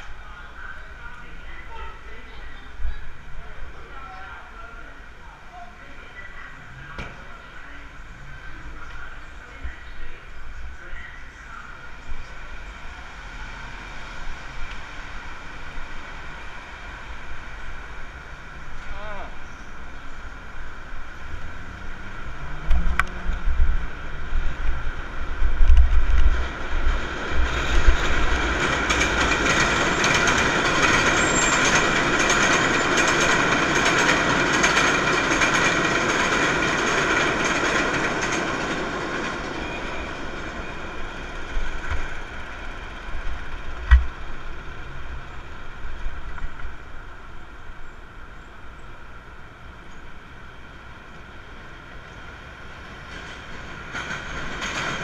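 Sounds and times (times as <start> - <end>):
elevated train rumbling: 0.0 - 55.0
street traffic: 0.0 - 55.0.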